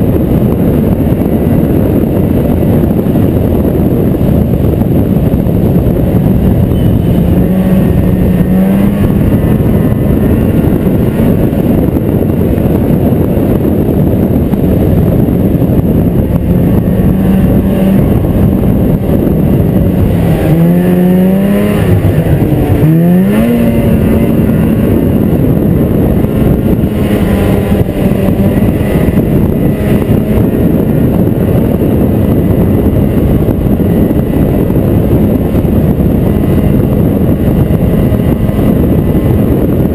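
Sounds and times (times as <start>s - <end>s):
snowmobile engine running: 0.0s - 39.9s
wind and track hiss: 0.0s - 39.9s.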